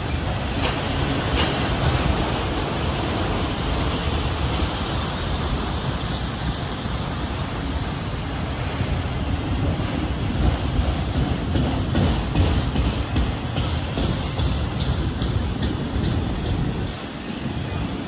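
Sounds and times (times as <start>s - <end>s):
freight train rolling on rails: 0.0s - 18.0s.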